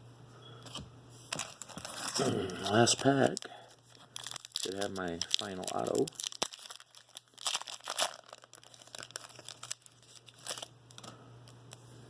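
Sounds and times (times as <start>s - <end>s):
faint low hum: 0.0s - 12.0s
plastic wrapper tearing and crinkling: 1.3s - 11.8s.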